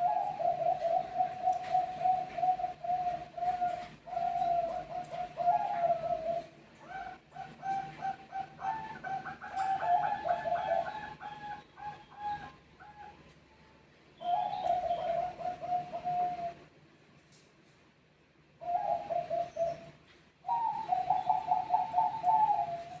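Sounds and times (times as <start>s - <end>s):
doves cooing: 0.0s - 13.3s, 14.2s - 16.7s, 18.6s - 23.0s.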